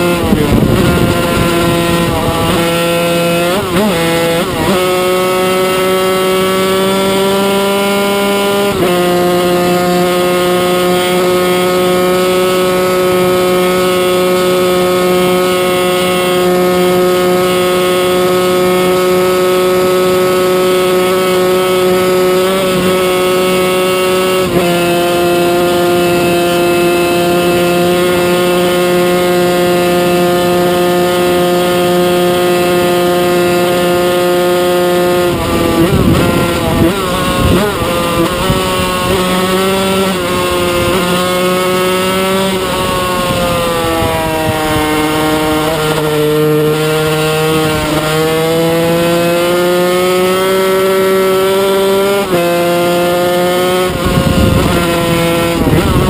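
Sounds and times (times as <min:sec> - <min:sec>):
two-stroke race engine revving: 0:00.0 - 0:56.0.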